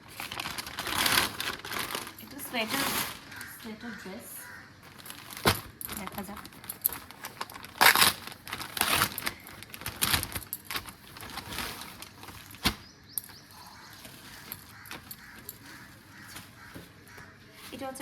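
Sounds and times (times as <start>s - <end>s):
packaging and cloth rustling: 0.0s - 18.0s.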